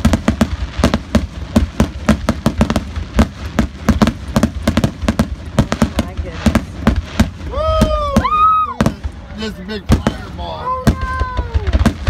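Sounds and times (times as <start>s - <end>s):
deep rumble: 0.0s - 12.0s
firework shells bursting: 0.0s - 12.0s.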